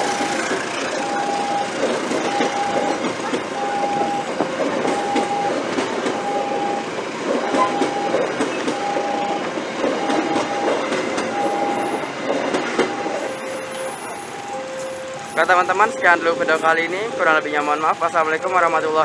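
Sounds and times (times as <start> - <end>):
electronic warning beep: 0.0 - 19.0
train coaches rumbling past: 0.0 - 19.0
wheels clacking over rail joints: 0.0 - 19.0.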